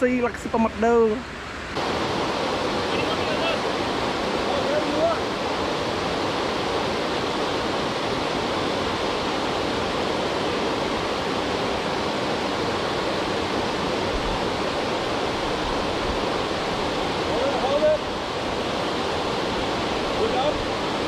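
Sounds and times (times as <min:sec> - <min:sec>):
waterfall rushing over weir: 0:00.2 - 0:21.0.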